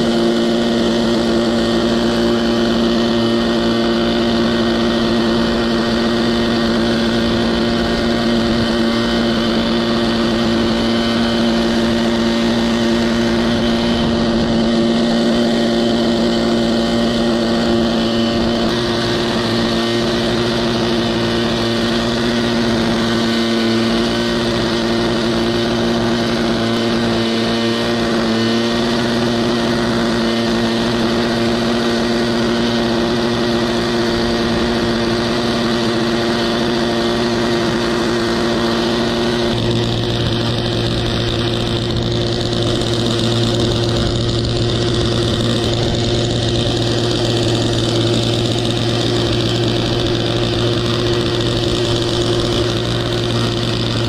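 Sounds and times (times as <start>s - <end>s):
low hum: 0.0s - 28.3s, 32.4s - 54.0s
mower engine running under load: 0.0s - 54.0s.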